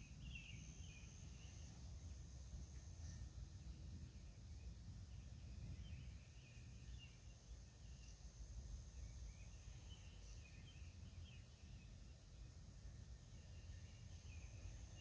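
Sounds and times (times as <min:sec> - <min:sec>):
faint insect or bird chirps: 0:00.0 - 0:15.0.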